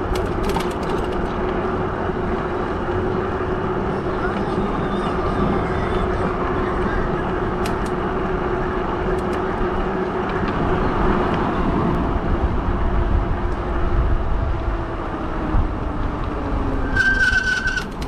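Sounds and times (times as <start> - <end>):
electric bike motor hum: 0.0 - 18.0
wind rushing over microphone: 0.0 - 18.0.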